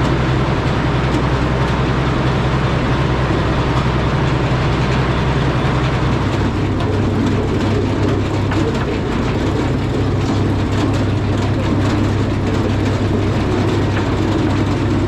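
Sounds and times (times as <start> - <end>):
sawmill engine: 0.0 - 15.0.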